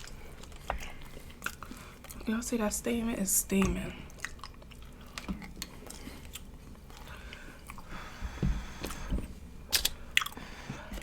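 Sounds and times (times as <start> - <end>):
chewing and biting food: 0.0 - 2.3, 3.6 - 11.0.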